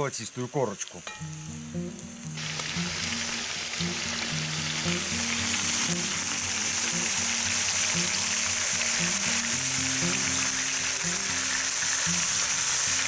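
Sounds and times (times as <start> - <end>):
meat sizzling in hot oil: 0.0 - 13.0
background music with low notes: 1.1 - 13.0.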